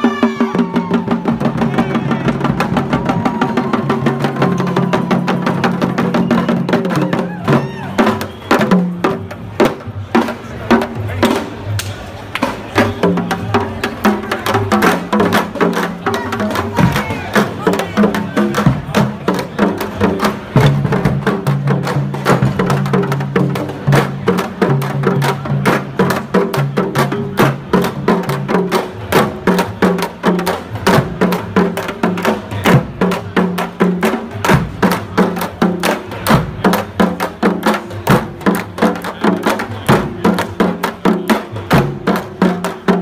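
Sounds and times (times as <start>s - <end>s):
frame drums beaten with sticks: 0.0s - 11.8s, 12.4s - 43.0s.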